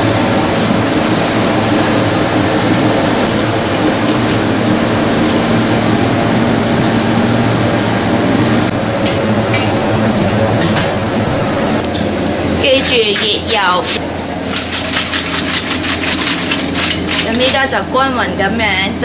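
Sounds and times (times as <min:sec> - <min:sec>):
gas burner roaring: 0:00.0 - 0:19.0
low hum: 0:00.0 - 0:19.0.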